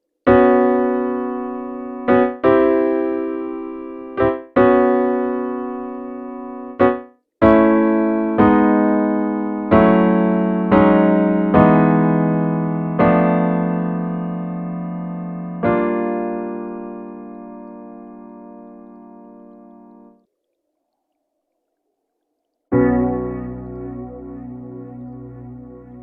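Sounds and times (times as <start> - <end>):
piano chords: 0.3 - 20.2, 22.7 - 26.0.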